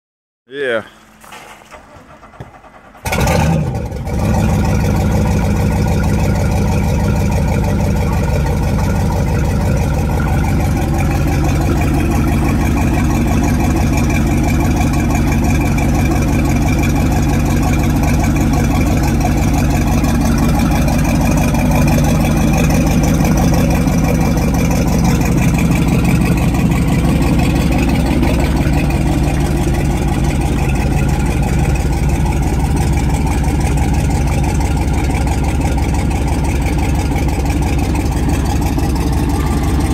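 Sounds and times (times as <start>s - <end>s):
boat engine starting and idling: 1.0s - 39.9s.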